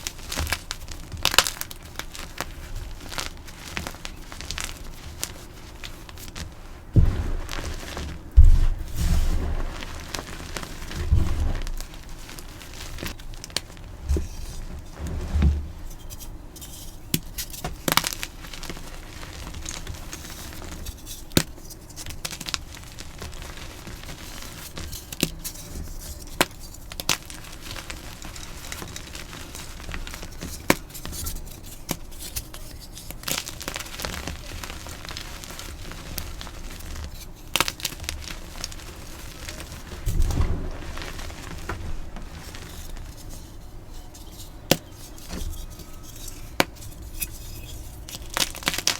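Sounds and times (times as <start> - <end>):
chalk crunching: 0.0 - 48.9.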